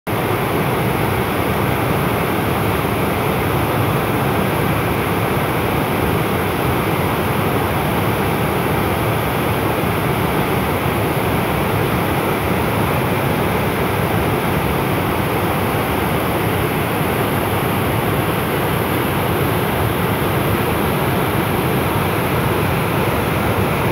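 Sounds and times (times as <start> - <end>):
waterfall rushing: 0.1 - 23.9.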